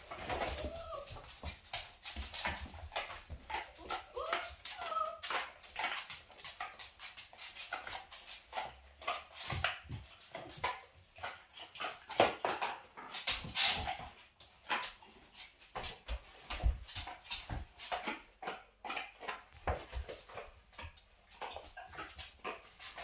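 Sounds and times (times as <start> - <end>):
dog claws clicking on wooden floor: 0.0 - 23.0.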